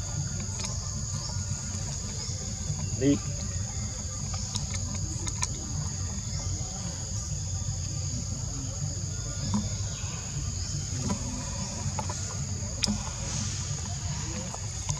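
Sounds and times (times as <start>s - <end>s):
insects droning: 0.0s - 14.9s.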